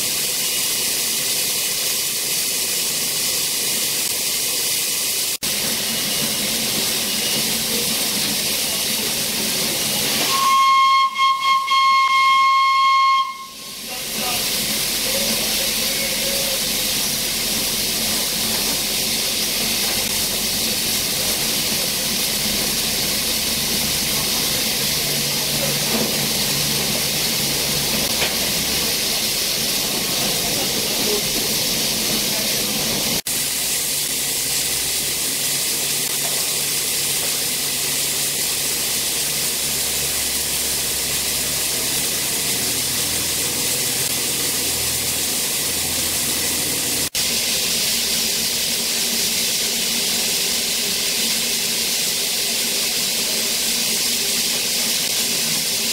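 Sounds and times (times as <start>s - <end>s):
steam hissing: 0.0s - 55.9s.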